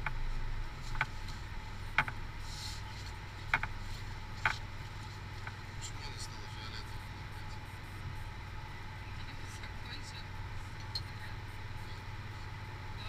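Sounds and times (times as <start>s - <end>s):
car interior hum: 0.0s - 13.0s.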